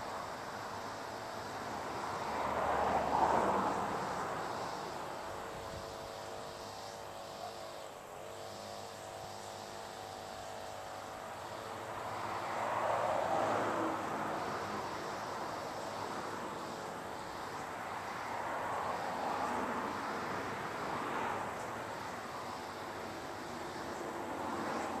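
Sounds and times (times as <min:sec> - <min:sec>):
distant airplane drone: 0:00.0 - 0:25.0.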